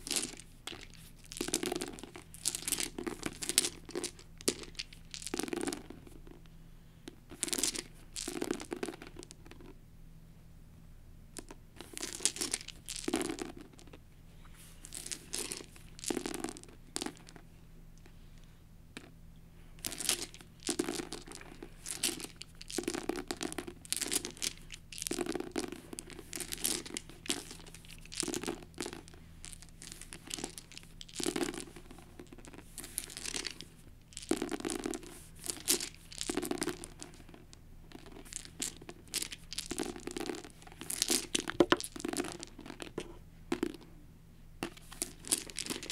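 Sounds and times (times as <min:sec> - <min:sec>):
plastic dice clattering: 0:00.0 - 0:06.4, 0:07.3 - 0:09.8, 0:11.4 - 0:14.0, 0:14.9 - 0:17.4, 0:19.8 - 0:43.8, 0:44.6 - 0:45.9.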